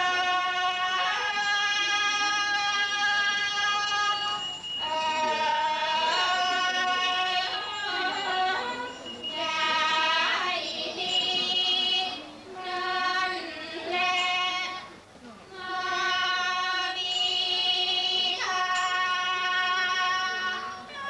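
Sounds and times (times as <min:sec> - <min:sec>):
wavering high melody line: 0:00.0 - 0:15.0, 0:15.6 - 0:21.0.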